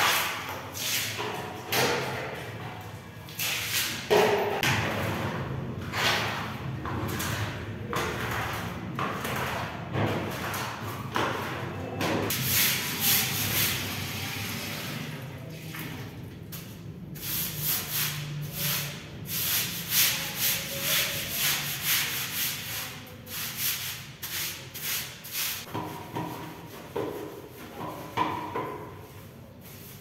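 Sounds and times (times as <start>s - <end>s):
broom scrubbing wet tiled floor: 0.0s - 30.0s.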